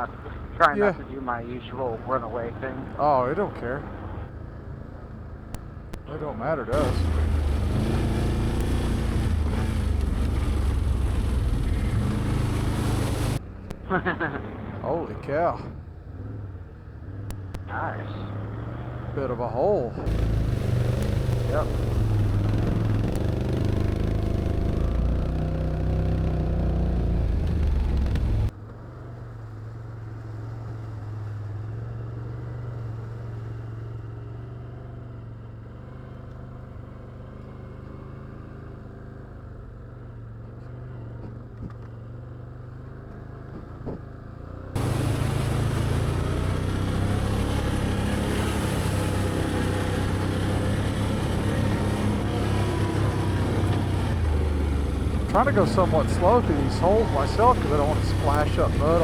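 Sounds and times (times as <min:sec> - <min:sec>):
atv engine running: 0:00.0 - 0:59.0
wind and ride noise: 0:00.0 - 0:59.0.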